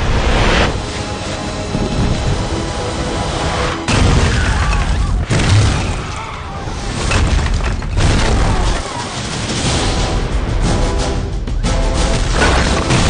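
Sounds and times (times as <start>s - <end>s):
dramatic background score: 0.0s - 13.0s.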